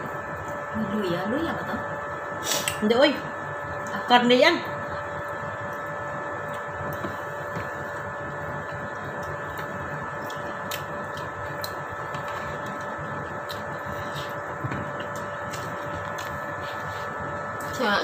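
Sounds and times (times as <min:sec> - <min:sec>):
mechanical hum with whining tones: 0:00.0 - 0:18.0.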